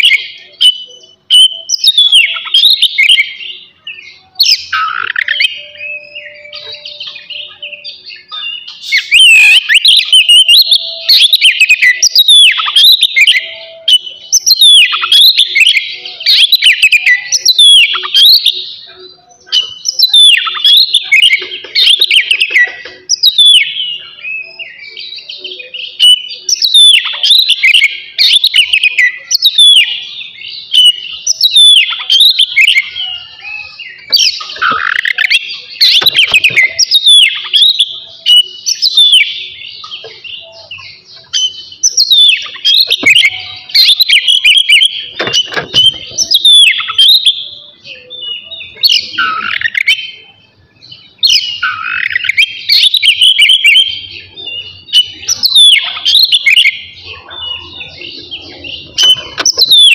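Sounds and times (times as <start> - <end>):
songbird singing whistled phrases: 0.0 - 59.9.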